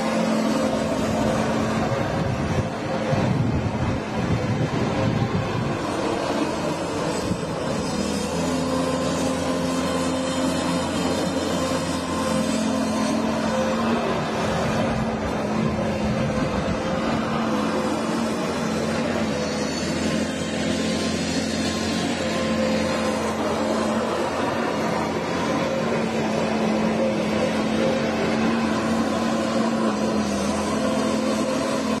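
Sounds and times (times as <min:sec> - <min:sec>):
excavator diesel engine droning: 0:00.0 - 0:32.0.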